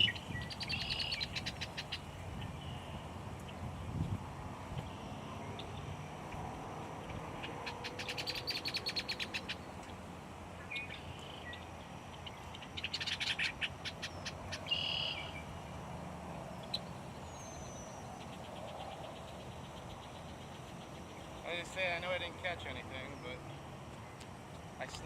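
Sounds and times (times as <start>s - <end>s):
birds chattering: 0.0s - 15.7s, 16.3s - 25.0s.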